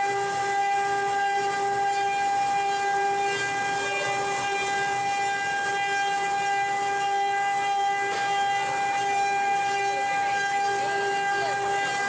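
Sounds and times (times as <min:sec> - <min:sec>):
cutter working wood: 0:00.0 - 0:12.0
router spindle whining: 0:00.0 - 0:12.0.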